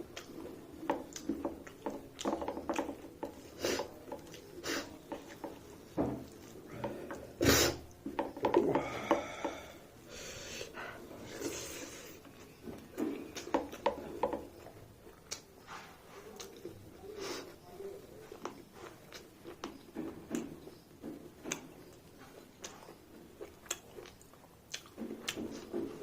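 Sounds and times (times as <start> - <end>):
chewing: 0.0 - 9.7, 10.9 - 26.0.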